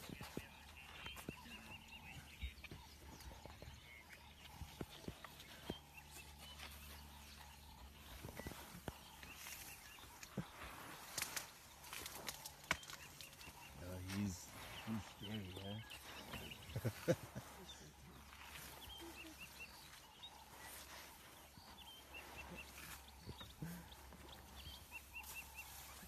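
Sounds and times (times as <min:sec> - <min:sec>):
bird chirps: 0:00.0 - 0:26.0.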